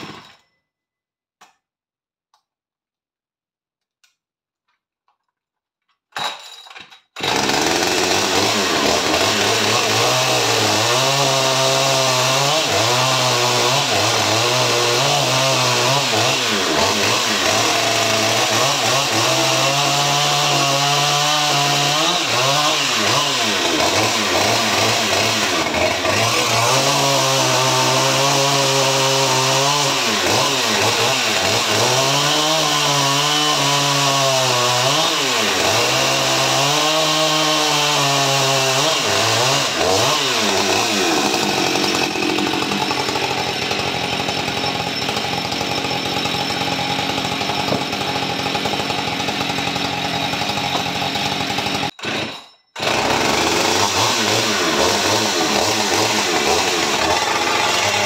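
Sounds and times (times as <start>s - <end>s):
chainsaw cutting wood: 0.0s - 0.4s, 7.2s - 58.0s.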